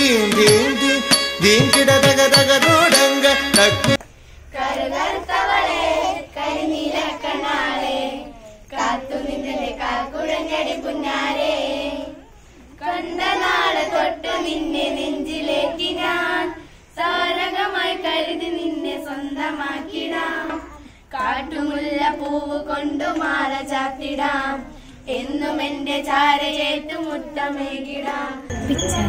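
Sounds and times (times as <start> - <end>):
children singing in unison: 4.5 - 28.9.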